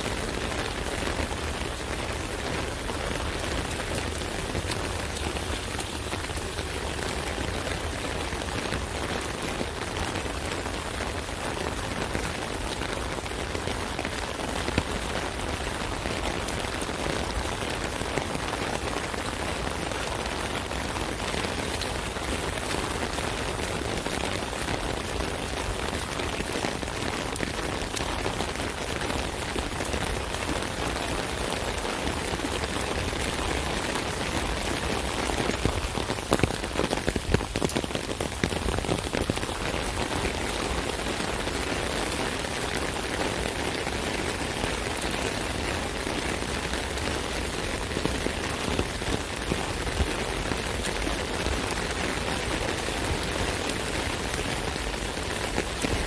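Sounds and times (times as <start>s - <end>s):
rain pattering on an umbrella: 0.0s - 56.0s.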